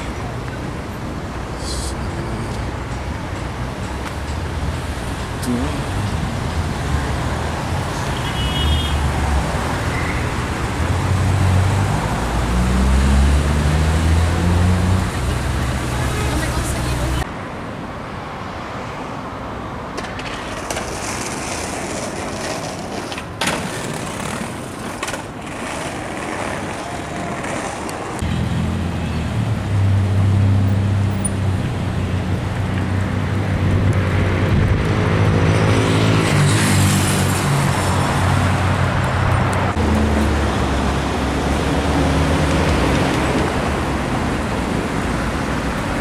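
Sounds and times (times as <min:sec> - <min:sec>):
city street traffic: 0:00.0 - 0:46.0.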